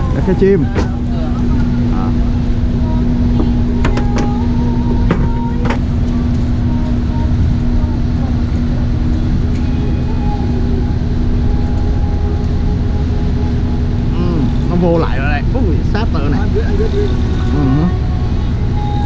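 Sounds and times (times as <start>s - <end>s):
boat engine humming: 0.0s - 19.0s
wind rumble on microphone: 0.0s - 19.0s.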